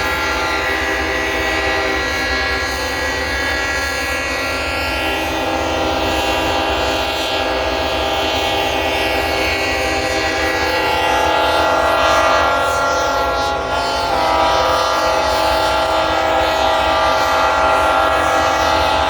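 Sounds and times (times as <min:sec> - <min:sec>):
locomotive air horns blowing: 0:00.0 - 0:19.0.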